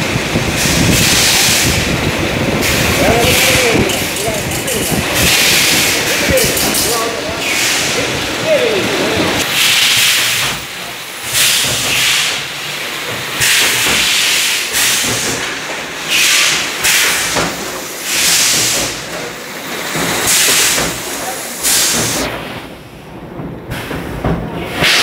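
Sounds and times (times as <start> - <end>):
loud air hiss: 0.1 - 22.4.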